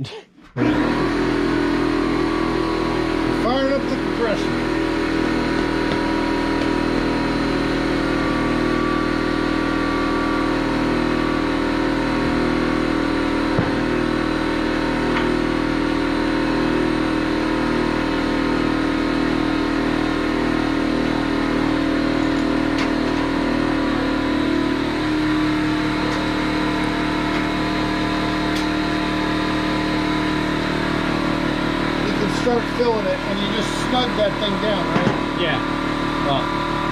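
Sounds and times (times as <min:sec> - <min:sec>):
air compressor running: 0:00.5 - 0:36.9.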